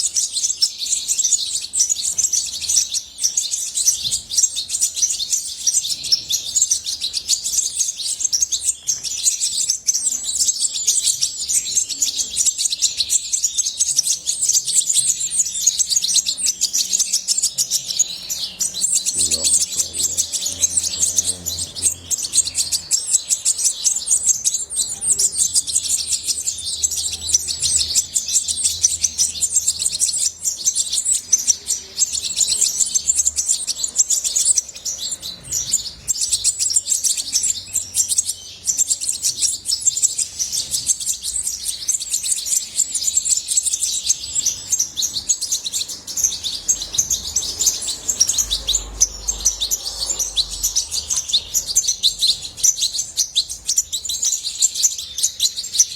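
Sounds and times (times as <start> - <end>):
finch twittering song: 0.0 - 55.9.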